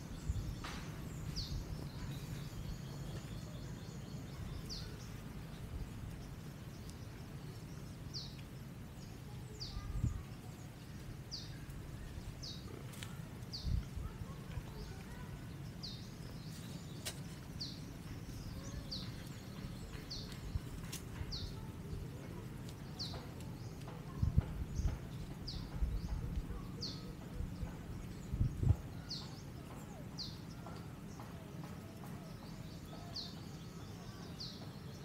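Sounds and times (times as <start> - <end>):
low rumble of wind: 0.0 - 35.0.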